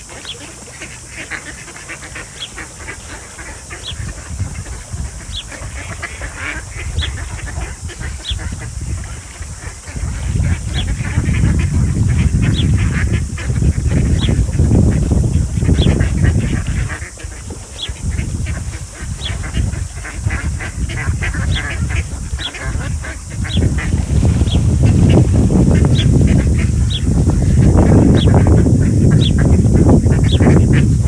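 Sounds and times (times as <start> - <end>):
ducks quacking: 0.0 - 31.0.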